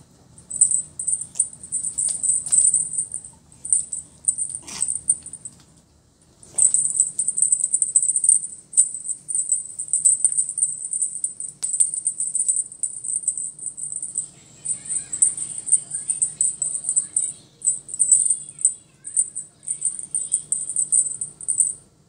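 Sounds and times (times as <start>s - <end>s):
small bell jingling: 0.4s - 5.6s, 6.5s - 21.8s.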